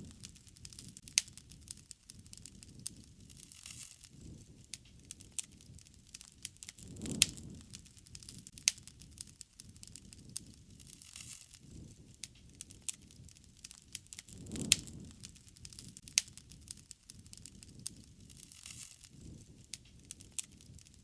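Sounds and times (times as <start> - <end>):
low rush of burning: 0.0 - 21.0
wood fire crackling: 0.0 - 21.0.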